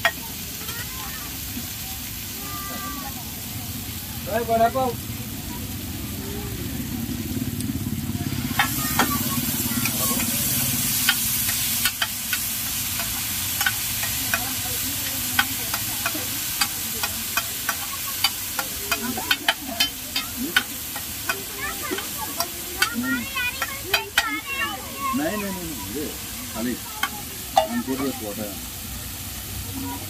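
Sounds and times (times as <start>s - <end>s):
food sizzling on a griddle: 0.0s - 30.0s.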